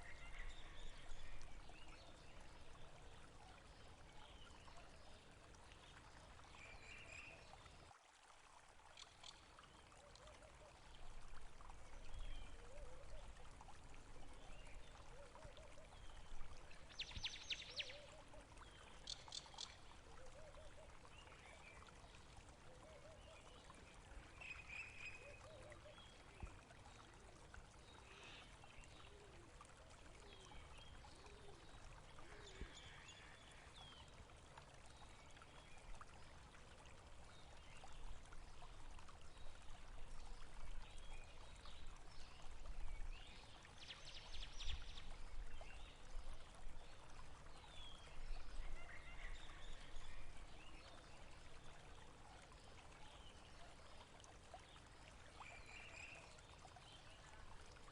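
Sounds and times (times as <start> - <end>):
stream trickling: 0.0 - 57.9.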